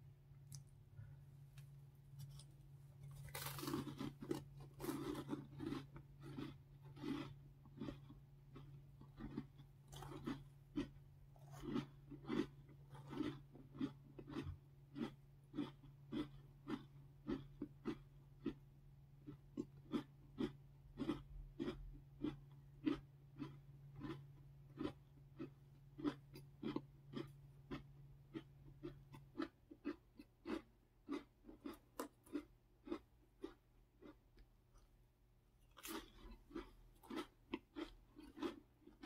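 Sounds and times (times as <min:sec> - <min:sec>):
crunchy chewing: 0:02.1 - 0:18.6, 0:19.2 - 0:34.9, 0:35.6 - 0:39.0.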